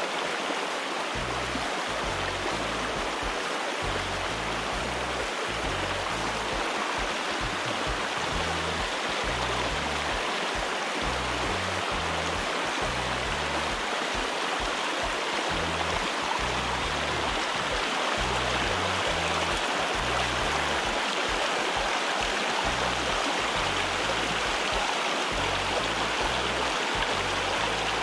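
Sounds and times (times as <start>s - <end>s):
water rushing over stones: 0.0s - 28.0s
music bass line: 1.2s - 28.0s.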